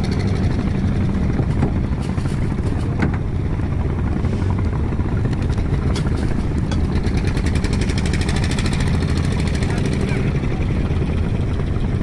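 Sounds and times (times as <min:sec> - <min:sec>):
small boat engine droning: 0:00.0 - 0:12.0.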